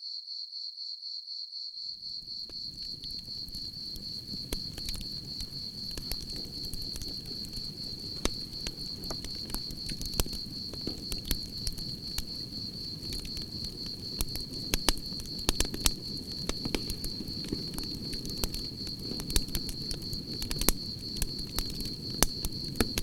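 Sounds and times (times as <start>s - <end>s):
cricket trill: 0.0s - 23.0s
campfire crackling and popping: 2.4s - 23.0s.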